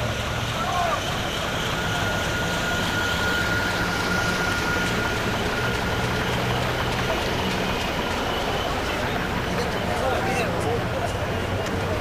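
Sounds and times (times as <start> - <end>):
bus engine idling: 0.0 - 12.0
road noise: 0.0 - 12.0.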